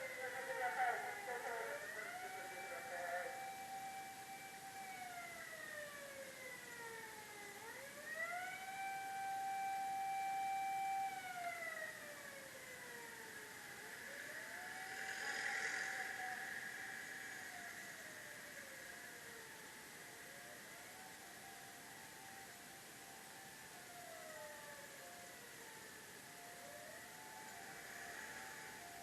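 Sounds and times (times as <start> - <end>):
fire engine siren wailing: 0.0 - 29.0.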